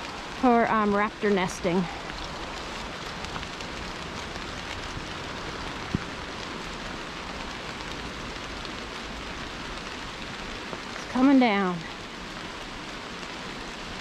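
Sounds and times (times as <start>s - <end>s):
steady rain on foliage: 0.0s - 14.0s.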